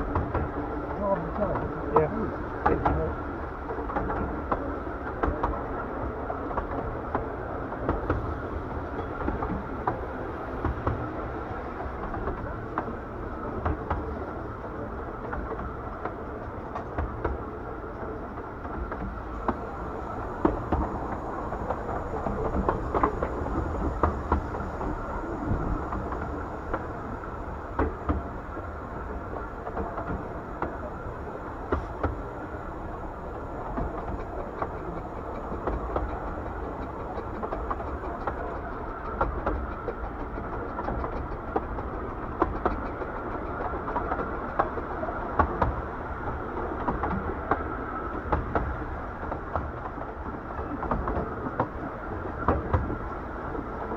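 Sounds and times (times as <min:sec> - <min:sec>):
clacks over the track: 0:00.0 - 0:53.9
train wheels rumbling on rail: 0:00.0 - 0:53.9.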